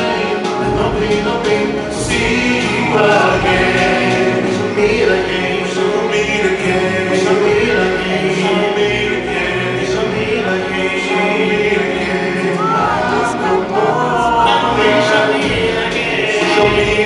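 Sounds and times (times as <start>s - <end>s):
choir singing with music: 0.0s - 17.0s.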